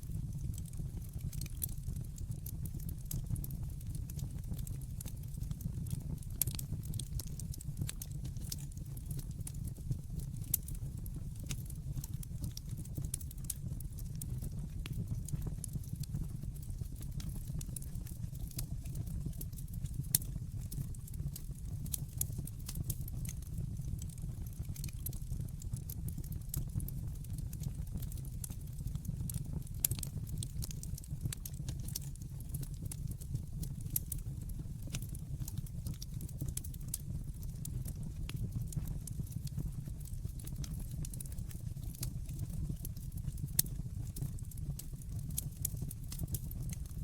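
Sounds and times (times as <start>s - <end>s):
low rumble of flames: 0.0s - 47.0s
fire crackling and popping: 0.1s - 47.0s.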